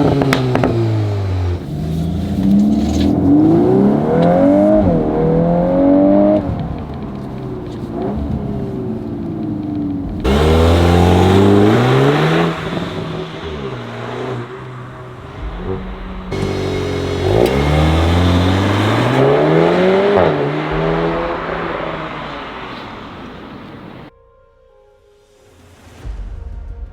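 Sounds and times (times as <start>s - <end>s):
car engine accelerating hard: 0.0s - 24.1s.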